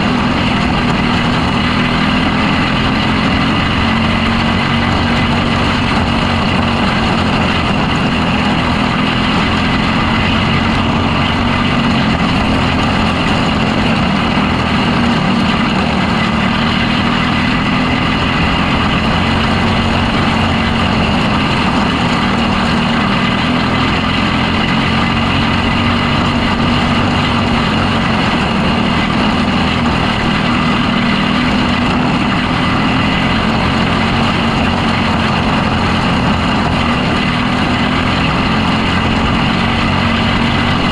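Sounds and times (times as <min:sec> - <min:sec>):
racing motorcycle engine: 0:00.0 - 0:40.9.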